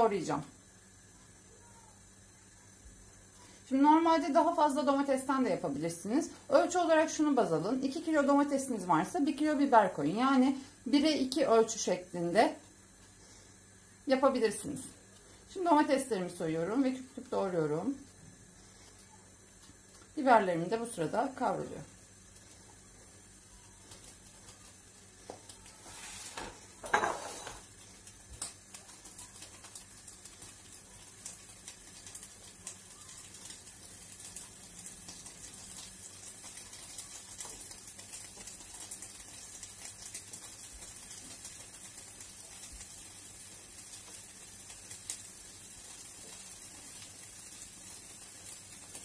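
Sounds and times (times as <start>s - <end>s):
peppers sizzling in oil: 0.0s - 49.0s.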